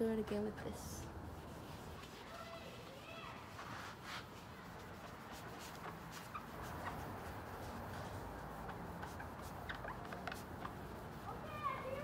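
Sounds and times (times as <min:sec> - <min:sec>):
foam pad rubbing plastic: 0:01.2 - 0:12.0.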